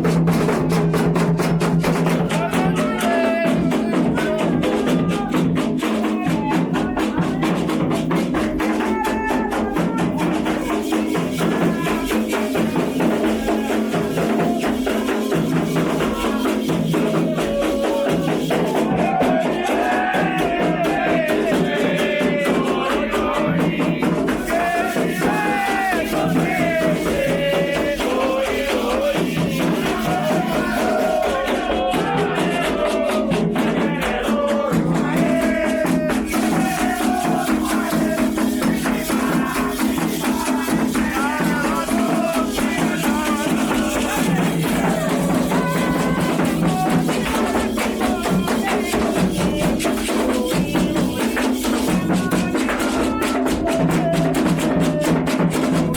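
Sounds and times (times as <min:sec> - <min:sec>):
drums: 0:00.0 - 0:55.9
voices singing a chant: 0:00.0 - 0:55.9.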